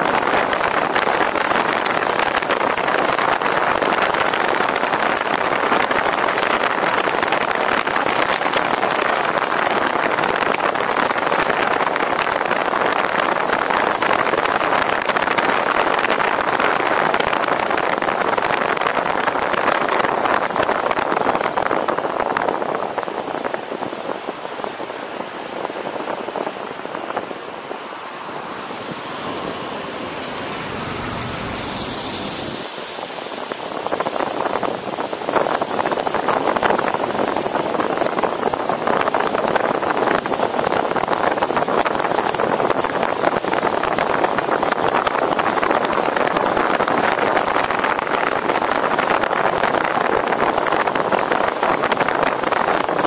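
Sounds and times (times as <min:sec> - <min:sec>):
tyre and road noise: 0:00.0 - 0:53.0
wind buffeting microphone: 0:00.0 - 0:53.0.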